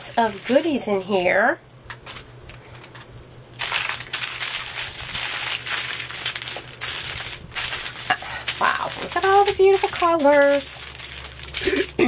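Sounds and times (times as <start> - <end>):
plastic bags crinkling: 0.0 - 1.3, 2.8 - 12.0.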